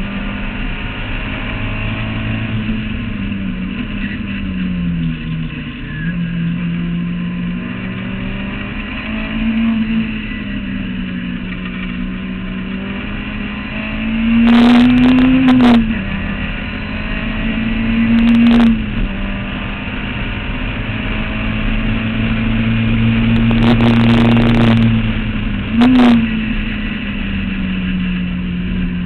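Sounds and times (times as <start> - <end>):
racing car engine accelerating: 0.0 - 29.0.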